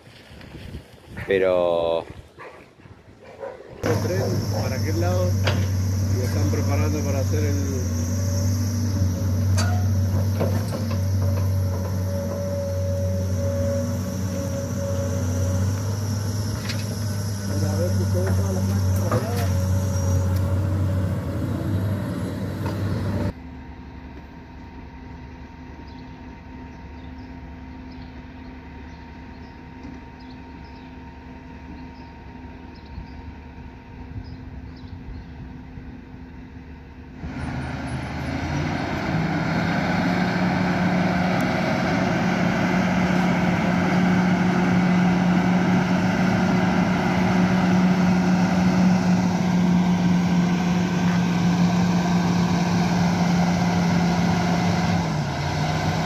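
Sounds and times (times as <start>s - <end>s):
diesel engine droning: 3.4s - 56.0s.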